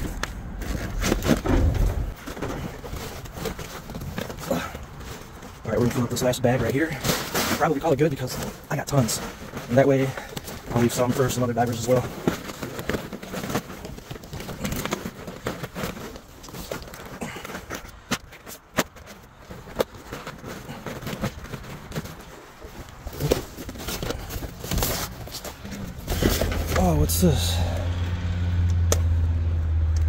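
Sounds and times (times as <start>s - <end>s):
paper and plastic rustling: 0.0s - 27.7s.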